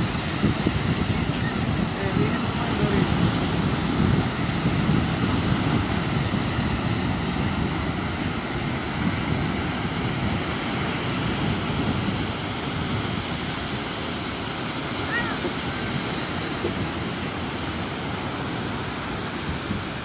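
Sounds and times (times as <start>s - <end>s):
surf breaking on sand beach: 0.0s - 20.0s
wind buffeting microphone: 0.0s - 20.0s.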